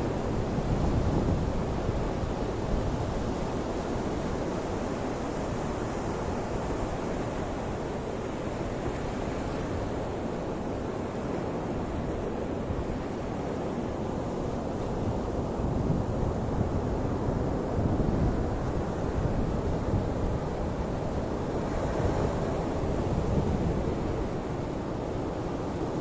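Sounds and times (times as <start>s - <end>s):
wind buffeting microphone: 0.0s - 10.3s, 15.0s - 26.0s.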